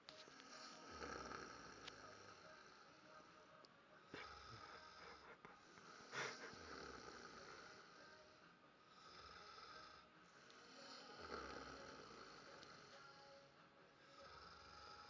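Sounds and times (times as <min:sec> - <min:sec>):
man snoring: 0:00.3 - 0:13.4, 0:14.0 - 0:15.0.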